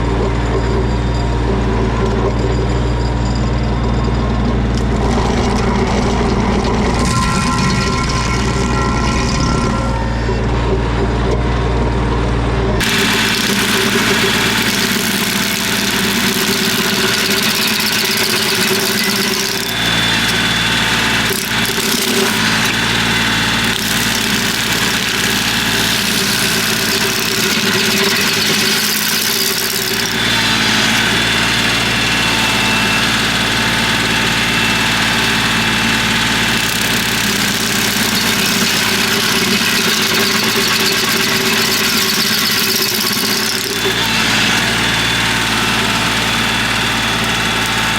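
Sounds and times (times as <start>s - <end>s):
stump grinder hissing: 0.0s - 11.6s, 12.8s - 47.9s
tractor diesel engine running: 0.0s - 47.9s.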